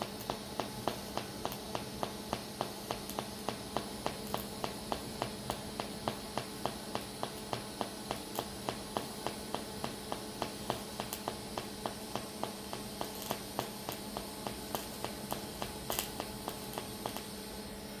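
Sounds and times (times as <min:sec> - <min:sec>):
welding arc ticking: 0:00.0 - 0:17.6
steady hum: 0:00.0 - 0:18.0.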